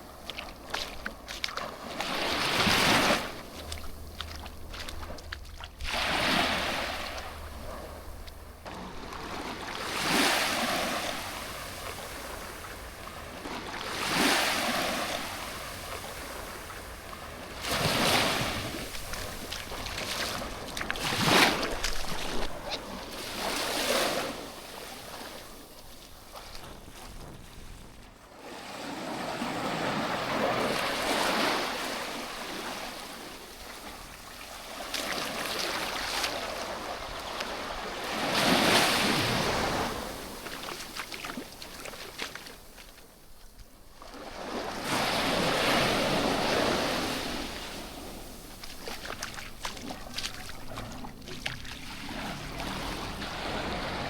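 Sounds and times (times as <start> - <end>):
waves washing up a beach: 0.0 - 54.0.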